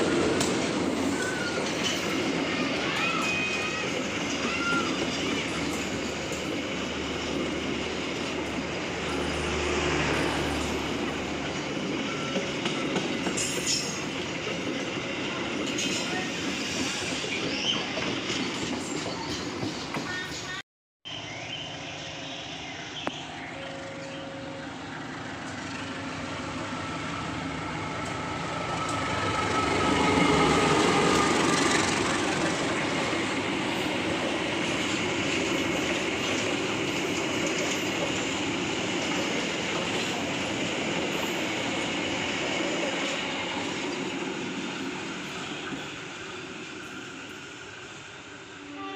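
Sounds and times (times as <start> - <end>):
train wheels rumbling on rails: 0.0 - 20.6, 23.2 - 48.9.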